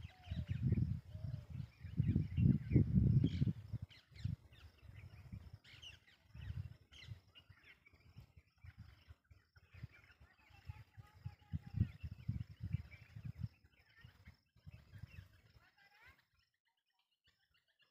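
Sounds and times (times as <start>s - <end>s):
wind buffeting microphone: 0.0s - 15.6s
small birds chirping: 0.0s - 17.9s.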